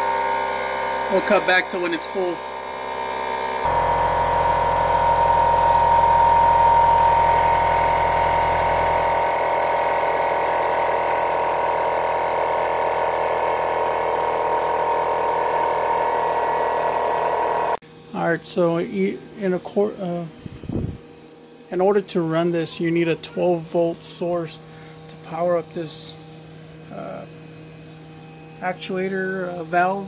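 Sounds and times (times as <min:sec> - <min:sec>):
air compressor whining hum: 0:00.0 - 0:30.0.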